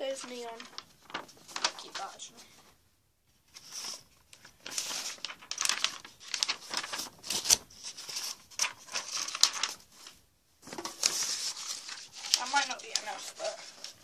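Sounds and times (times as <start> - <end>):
paper rustling and crinkling: 0.0 - 2.7, 3.4 - 14.0.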